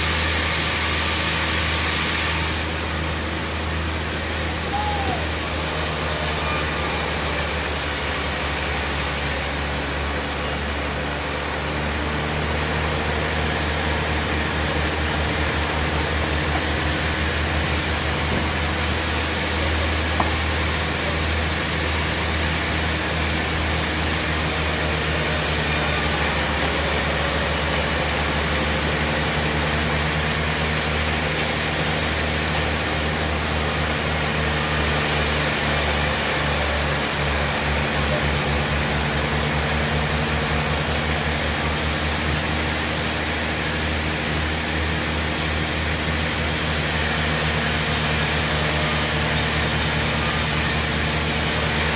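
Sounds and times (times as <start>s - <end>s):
band sawmill running: 0.0s - 51.9s.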